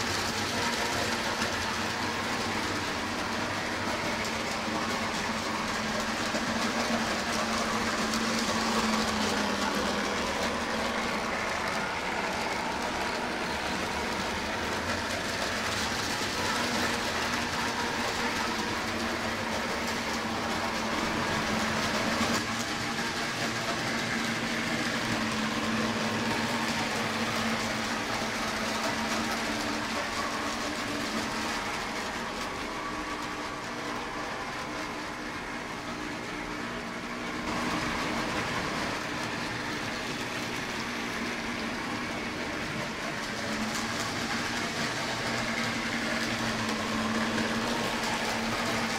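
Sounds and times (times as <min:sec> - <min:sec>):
wheels rattling over track: 0:00.0 - 0:48.9.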